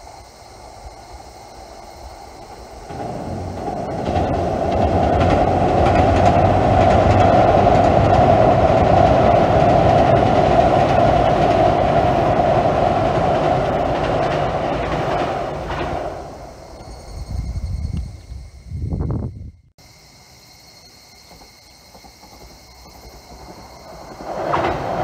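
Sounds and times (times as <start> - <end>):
electric train on steel bridge: 0.0 - 25.0.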